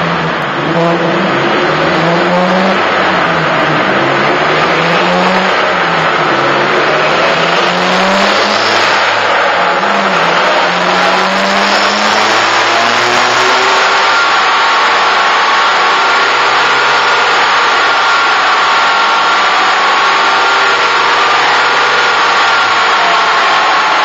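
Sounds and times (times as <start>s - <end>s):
car engine revving: 0.0s - 24.0s
steady rushing noise: 0.0s - 24.0s.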